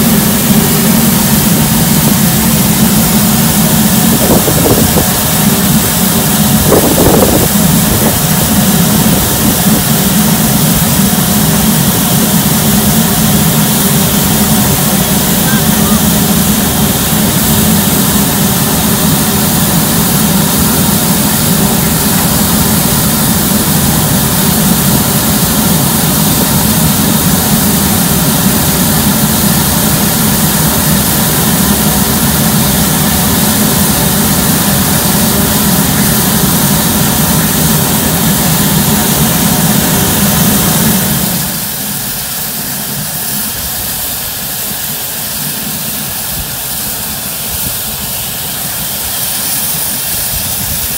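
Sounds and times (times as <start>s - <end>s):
steam escaping from locomotive: 0.0s - 50.9s.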